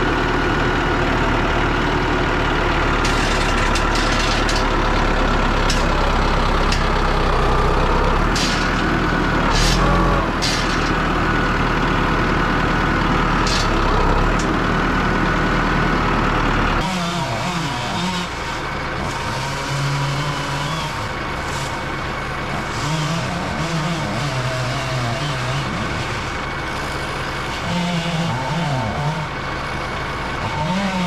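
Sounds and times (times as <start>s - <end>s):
heavy machine engine working hard: 0.0s - 31.0s.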